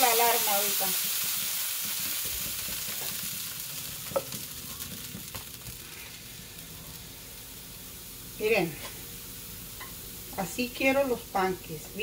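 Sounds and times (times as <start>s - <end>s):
butter sizzling on a griddle: 0.0s - 12.0s.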